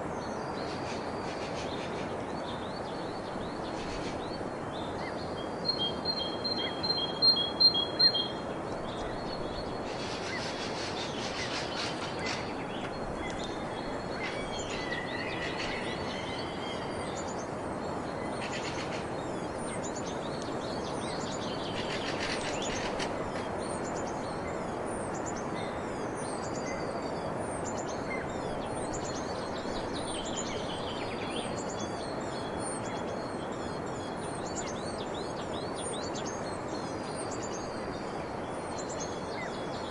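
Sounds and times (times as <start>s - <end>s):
birds singing and chirping: 0.1s - 39.9s.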